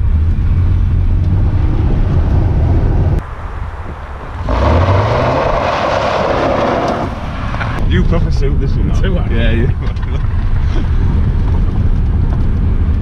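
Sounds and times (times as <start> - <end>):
truck engine rumbling: 0.0 - 13.0
tyre noise on dirt road: 0.0 - 13.0.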